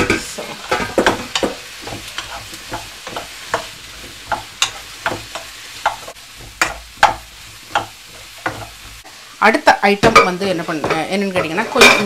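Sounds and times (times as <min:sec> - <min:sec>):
wooden spatula scraping pan: 0:00.0 - 0:09.0, 0:10.1 - 0:12.0
light sizzle of frying: 0:00.0 - 0:12.0.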